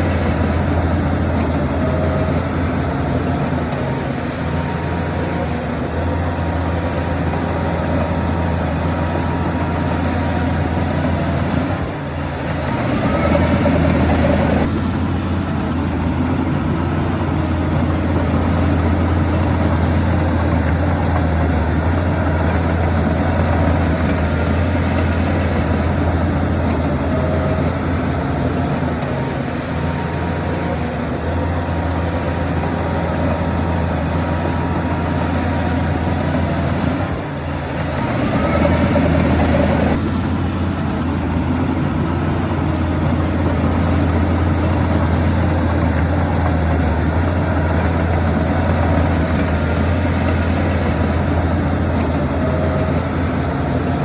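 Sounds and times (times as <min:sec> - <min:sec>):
heavy diesel machinery engines: 0:00.0 - 0:54.0.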